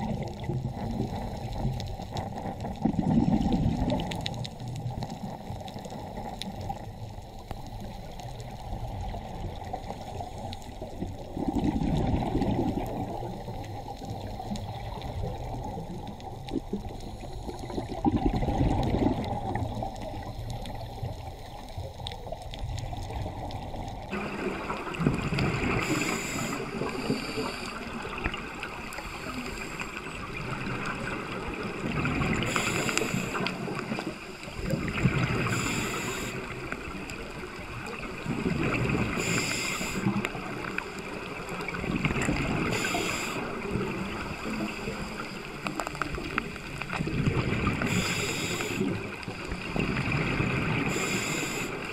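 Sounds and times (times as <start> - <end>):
underwater low rumble: 0.0 - 51.9
rushing surge of bubbles: 2.2 - 5.4, 10.8 - 21.3, 22.5 - 29.3, 30.1 - 51.9.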